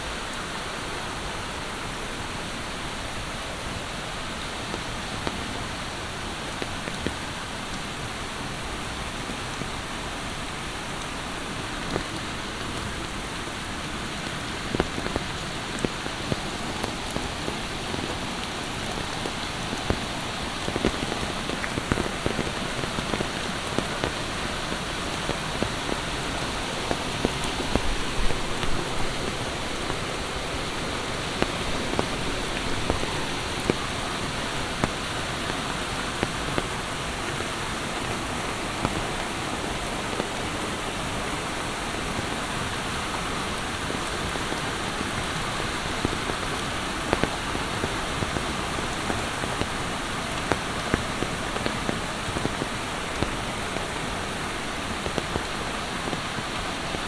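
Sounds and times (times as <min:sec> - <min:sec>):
heavy rain falling: 0:00.0 - 0:57.0
raindrops ticking sharply: 0:09.6 - 0:57.0.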